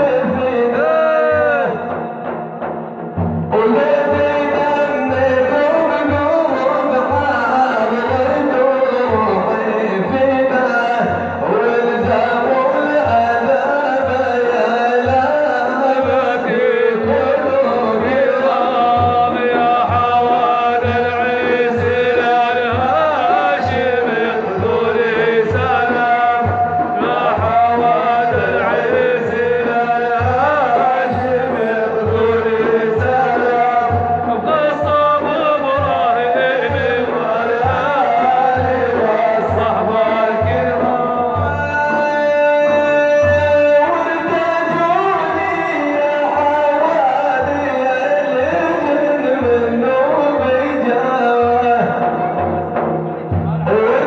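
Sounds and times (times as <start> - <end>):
man singing devotional chant: 0.0 - 2.0, 3.5 - 54.0
low drum beats: 0.0 - 54.0.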